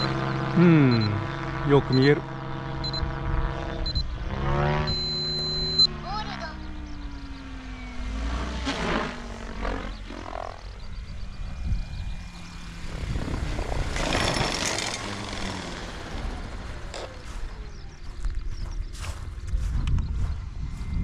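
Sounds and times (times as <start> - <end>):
helicopter rotor whirring: 0.0 - 21.0.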